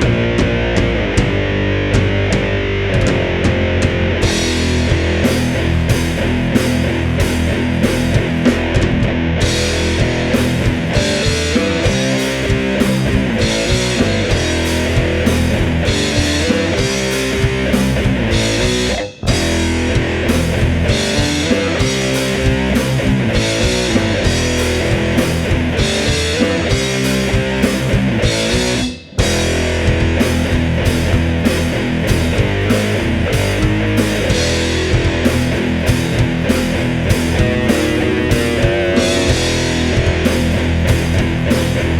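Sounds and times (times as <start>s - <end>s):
doom metal band playing: 0.0s - 41.9s.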